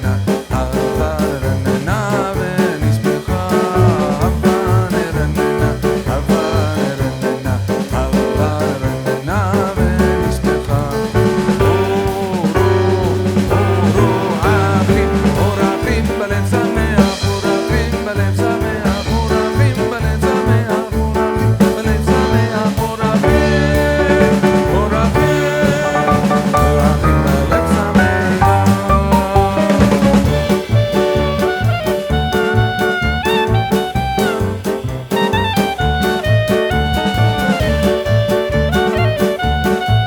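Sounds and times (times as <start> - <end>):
person singing: 0.0 - 40.0
upbeat swing jazz music: 0.0 - 40.0.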